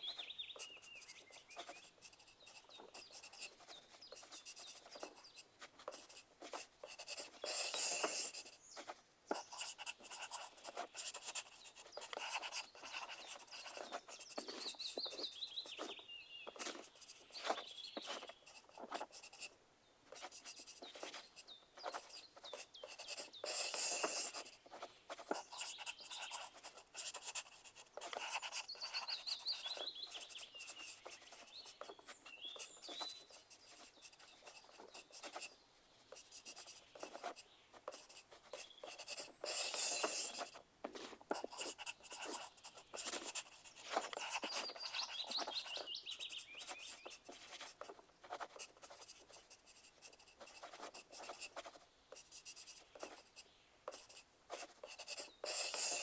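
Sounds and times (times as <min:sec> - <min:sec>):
bird chirping: 0:00.0 - 0:06.1, 0:06.8 - 0:19.5, 0:20.6 - 0:40.5, 0:41.4 - 0:47.6
pencils scratching on paper: 0:00.0 - 0:56.0.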